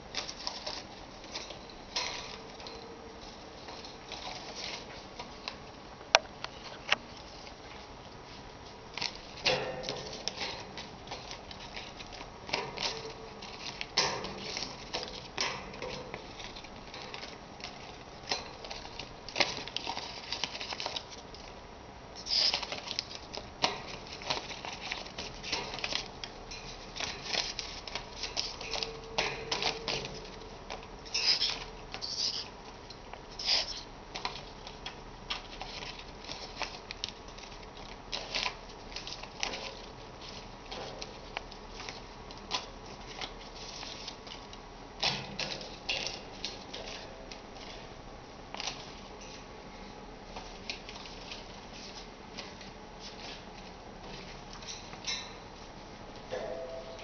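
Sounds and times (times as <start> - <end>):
paper crinkling and rustling: 0.0 - 5.8, 6.5 - 21.6, 22.2 - 55.8.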